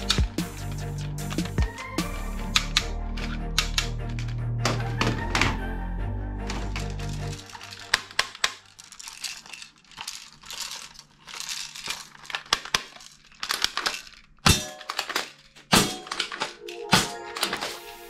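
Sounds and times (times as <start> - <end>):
plastic toy guns clicking and rattling: 0.0 - 5.2, 6.5 - 17.8.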